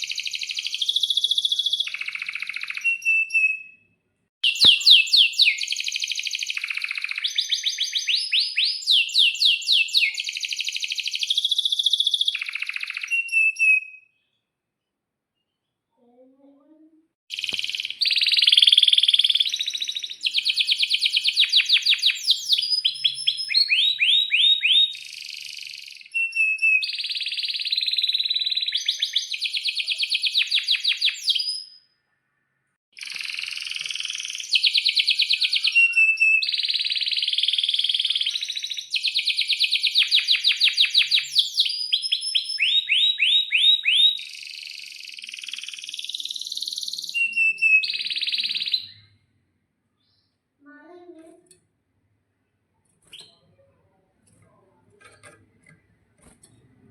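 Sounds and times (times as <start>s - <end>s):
canary singing: 0.0s - 14.2s, 16.4s - 31.8s, 33.0s - 49.2s.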